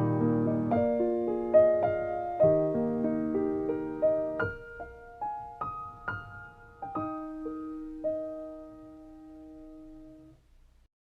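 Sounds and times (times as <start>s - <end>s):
slow solo piano music: 0.0s - 10.4s.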